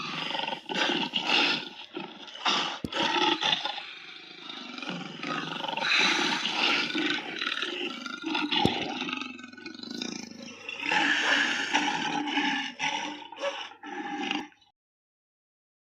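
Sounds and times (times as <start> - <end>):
harsh raspy creature roars: 0.0 - 14.7.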